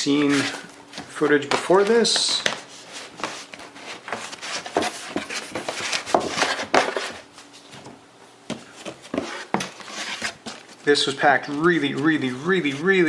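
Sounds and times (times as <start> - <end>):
packaging rustling and scraping: 0.0 - 7.9, 8.6 - 13.0.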